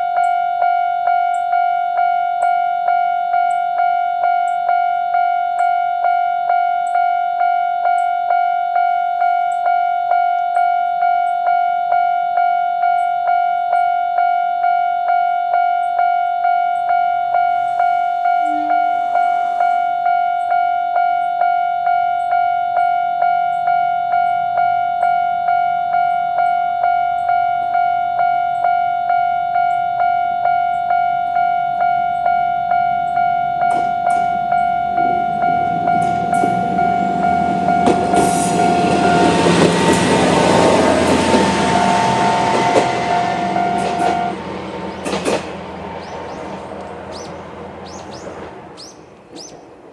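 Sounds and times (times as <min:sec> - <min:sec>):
level crossing warning bell: 0:00.0 - 0:49.9.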